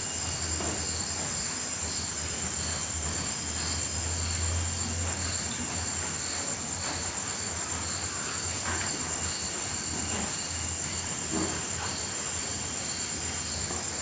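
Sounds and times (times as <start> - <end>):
lower pulsing cricket chirp: 0.0 - 14.0.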